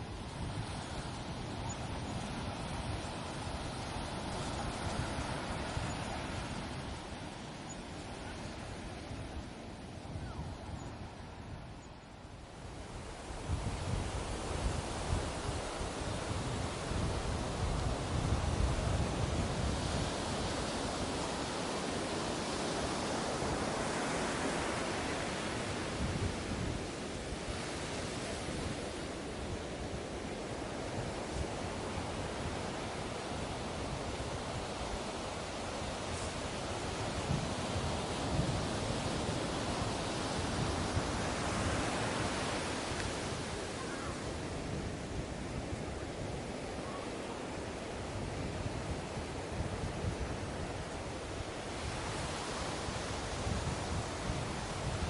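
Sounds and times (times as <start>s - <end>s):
ocean surf washing onto beach: 0.0s - 11.5s, 12.2s - 55.0s.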